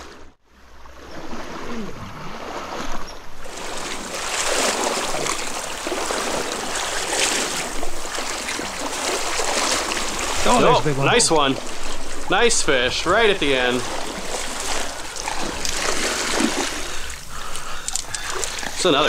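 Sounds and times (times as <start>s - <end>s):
stream water rushing and gurgling: 0.0s - 19.0s.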